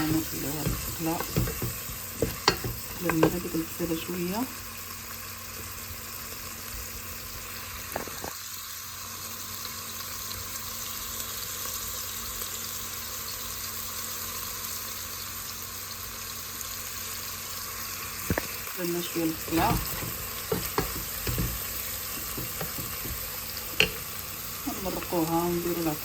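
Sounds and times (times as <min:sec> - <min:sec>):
onion sizzling in oil: 0:00.0 - 0:26.0.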